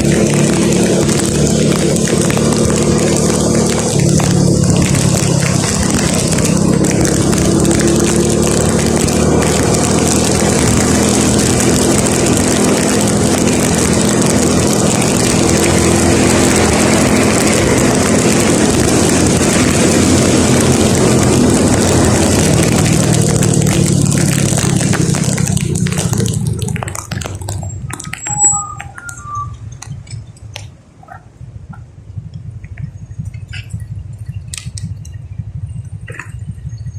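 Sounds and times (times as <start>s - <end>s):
water dripping: 0.0s - 30.7s
tyres on wet road: 0.0s - 36.9s
vehicle engine hum: 0.0s - 36.9s.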